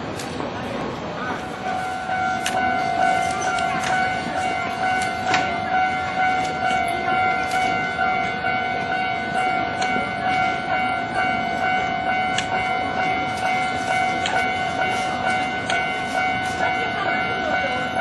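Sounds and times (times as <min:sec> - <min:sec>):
level crossing warning bell: 0:01.0 - 0:18.0.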